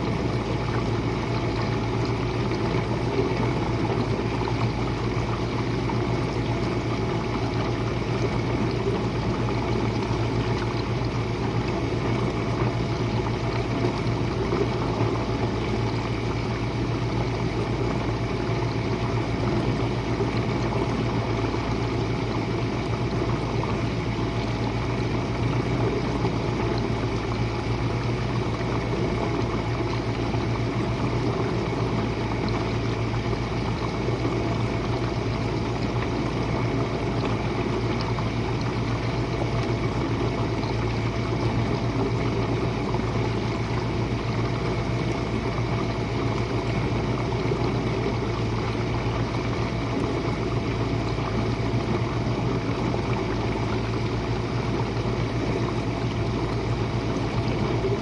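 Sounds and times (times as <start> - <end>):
dishwasher pump motor humming: 0.0 - 58.0.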